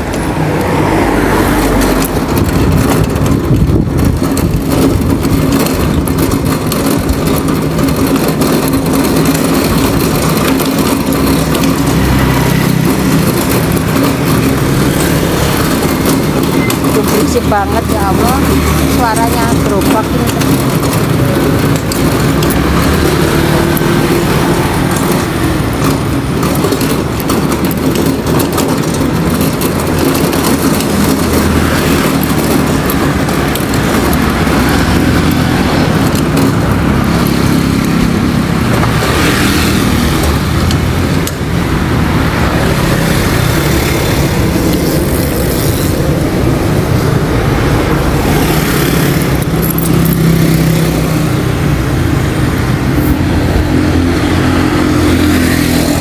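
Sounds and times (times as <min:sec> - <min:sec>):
passing scooters and cars: 0:00.0 - 0:56.0
scooter engine hum: 0:00.0 - 0:56.0.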